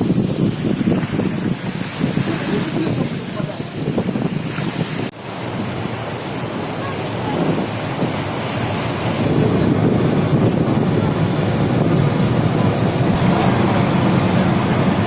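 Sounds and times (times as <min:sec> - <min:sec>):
water rushing past motorboat: 0:00.0 - 0:15.0
wind buffeting microphone: 0:00.0 - 0:15.0.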